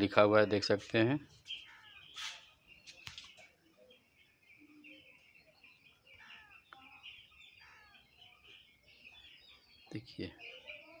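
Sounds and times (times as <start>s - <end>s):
chicks peeping: 0.6s - 11.0s.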